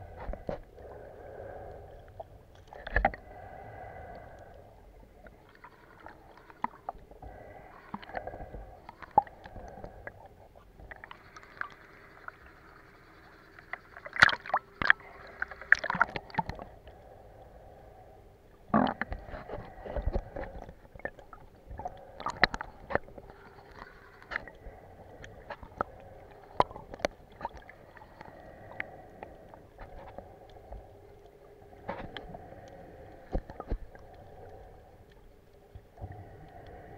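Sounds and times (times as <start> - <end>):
faint steady hum: 0.0 - 36.9
underwater water noise: 0.0 - 36.9.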